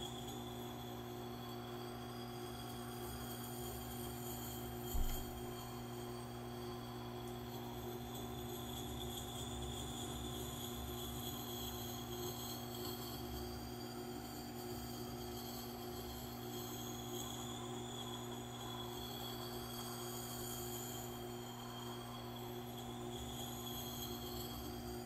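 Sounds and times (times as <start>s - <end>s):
sharpening machine humming: 0.0s - 25.0s.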